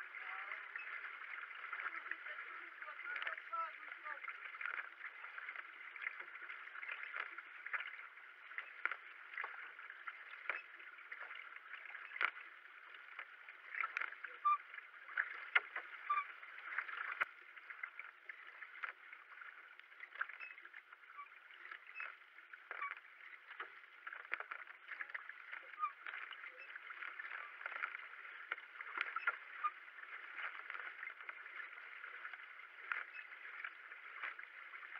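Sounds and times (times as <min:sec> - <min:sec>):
paddle strokes splashing: 0:00.0 - 0:34.9
water washing along hull: 0:00.0 - 0:34.9.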